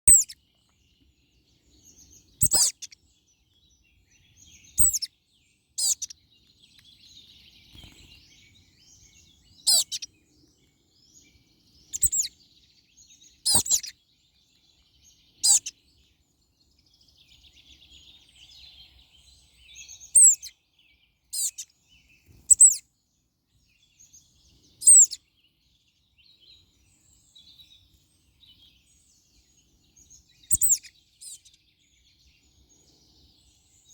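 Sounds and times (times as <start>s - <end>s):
soft high bird twittering: 0.0s - 33.9s.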